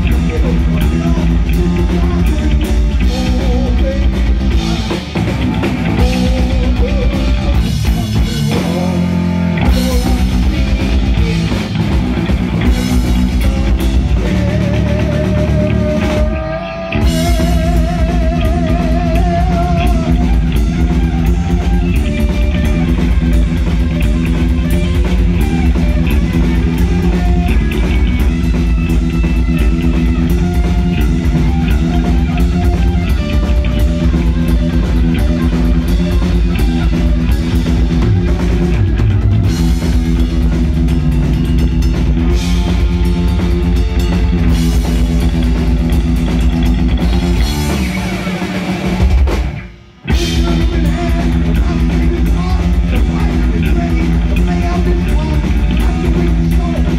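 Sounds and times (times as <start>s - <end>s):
drum kit: 0.0s - 56.9s
electric guitars: 0.0s - 56.9s
heavy metal band playing live: 0.0s - 56.9s.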